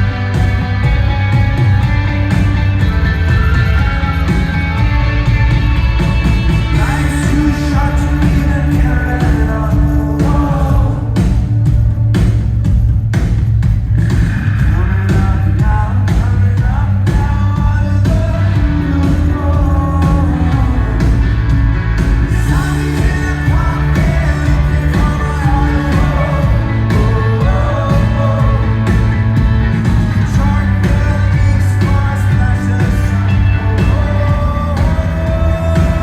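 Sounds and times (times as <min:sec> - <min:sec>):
singer singing: 0:00.0 - 0:11.9, 0:14.0 - 0:36.0
rock band playing live: 0:00.0 - 0:36.0.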